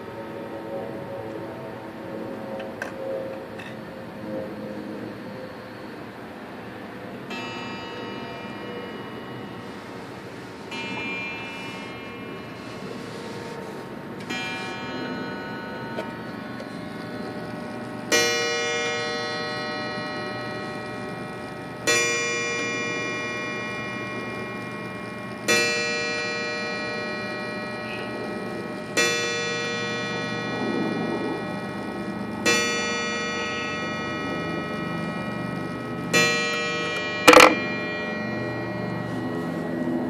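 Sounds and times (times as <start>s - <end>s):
clock striking on wire gong: 7.3s - 40.0s.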